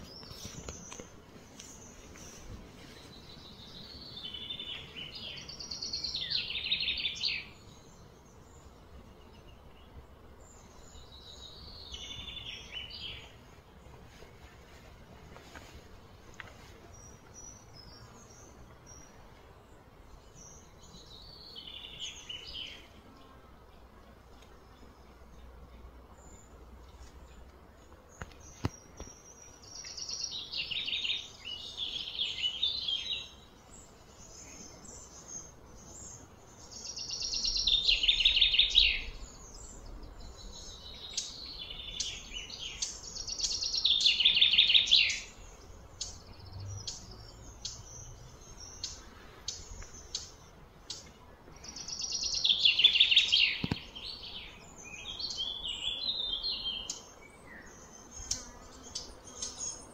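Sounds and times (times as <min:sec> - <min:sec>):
bird singing: 0:00.0 - 0:13.8, 0:16.9 - 0:59.9.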